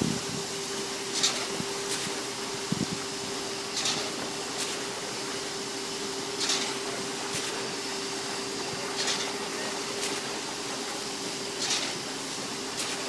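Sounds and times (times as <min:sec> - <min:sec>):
concrete pump humming: 0:00.0 - 0:13.0.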